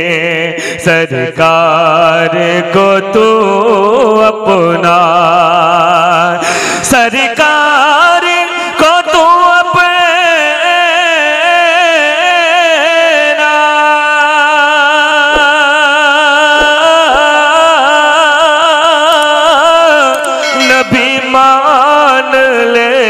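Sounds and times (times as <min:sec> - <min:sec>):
man singing through a microphone: 0:00.0 - 0:23.0.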